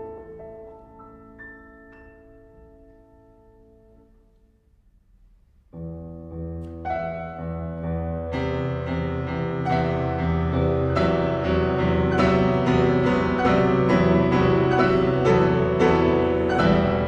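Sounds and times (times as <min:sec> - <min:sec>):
piano chords: 0:00.0 - 0:04.8, 0:05.5 - 0:17.0.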